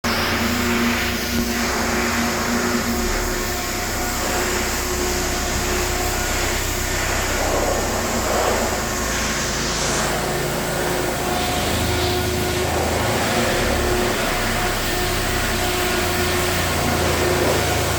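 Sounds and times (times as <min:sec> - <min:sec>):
diesel engine idling: 0:00.1 - 0:17.9.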